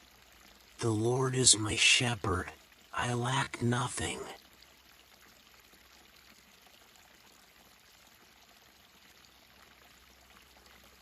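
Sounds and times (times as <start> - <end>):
babbling water: 0.0 - 11.0.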